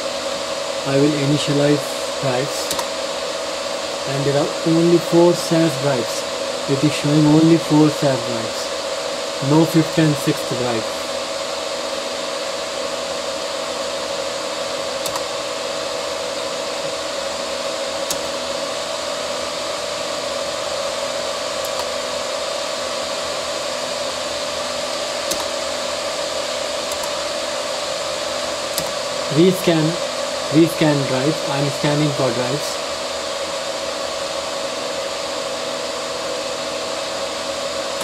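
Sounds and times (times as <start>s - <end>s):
server cooling fans whirring: 0.0s - 38.0s.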